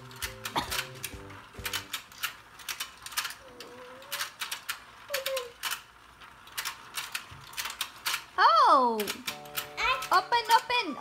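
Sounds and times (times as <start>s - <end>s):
toy game clicking: 0.0s - 10.9s.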